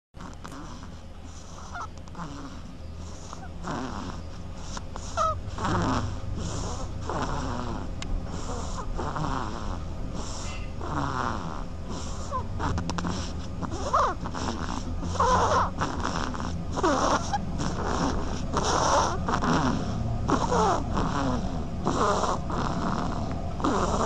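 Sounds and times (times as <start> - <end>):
duckling snoring: 0.2 - 24.0.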